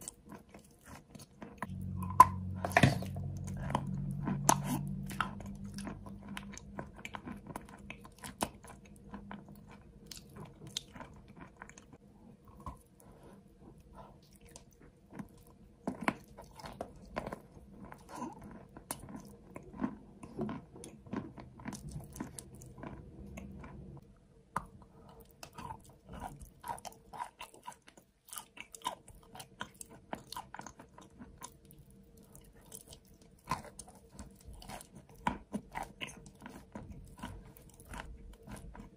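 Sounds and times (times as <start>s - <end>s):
person chewing and crunching: 0.0s - 38.9s.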